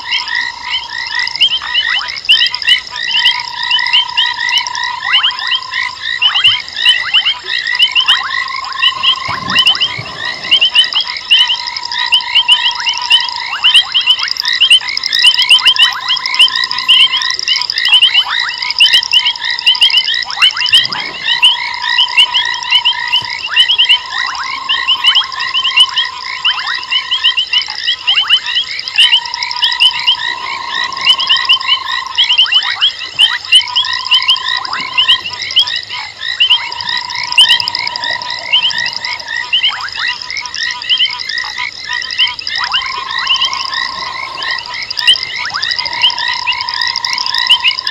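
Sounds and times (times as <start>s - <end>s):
frogs chirping: 0.0s - 47.9s.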